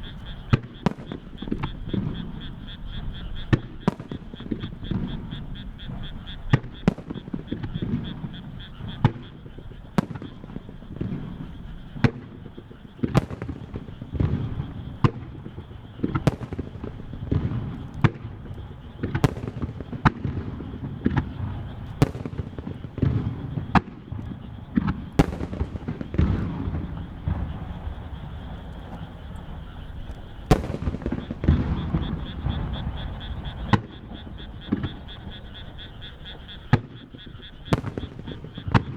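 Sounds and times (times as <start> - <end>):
low rumble of fireworks: 0.0 - 38.9
firework shells bursting: 0.1 - 38.9.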